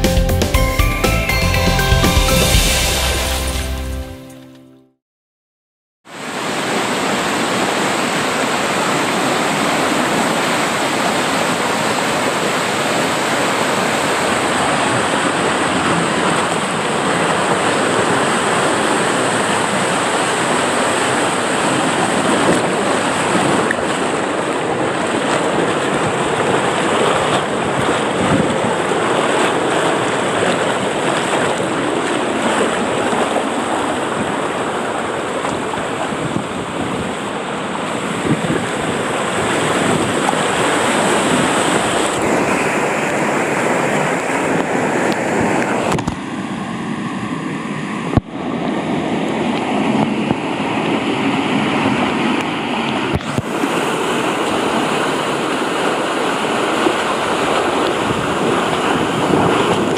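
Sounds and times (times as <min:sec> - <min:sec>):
water rushing and splashing: 0:00.0 - 0:04.2, 0:06.1 - 0:59.9.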